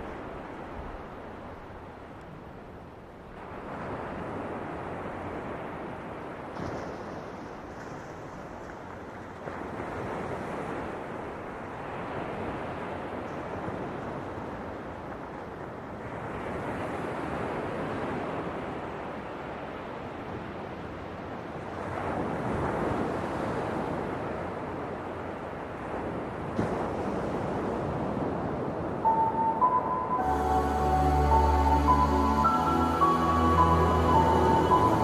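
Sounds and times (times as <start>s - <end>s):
ocean waves breaking: 3.2s - 35.0s.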